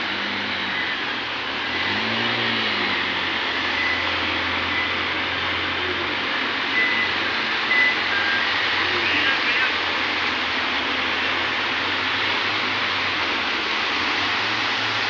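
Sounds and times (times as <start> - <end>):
vehicle engines running: 0.0 - 15.0
water rushing: 0.0 - 15.0.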